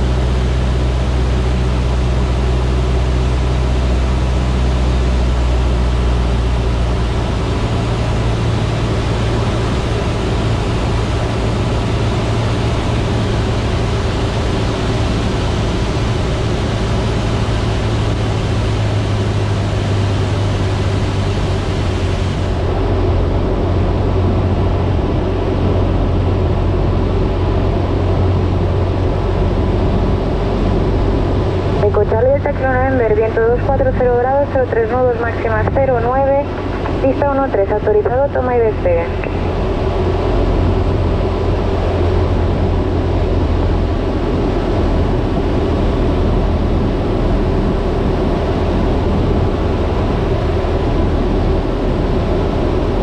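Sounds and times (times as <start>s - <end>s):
airplane engine droning in cockpit: 0.0s - 53.0s.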